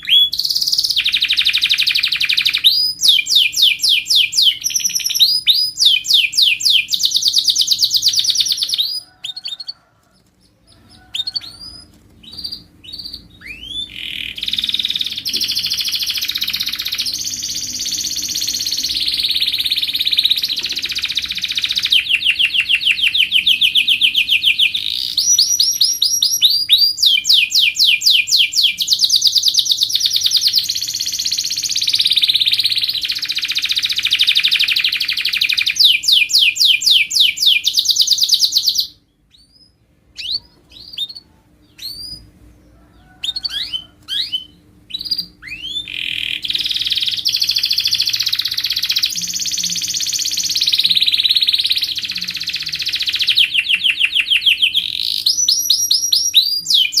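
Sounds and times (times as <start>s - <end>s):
canary chirps: 0.0s - 57.0s
canary singing trills: 0.0s - 57.0s.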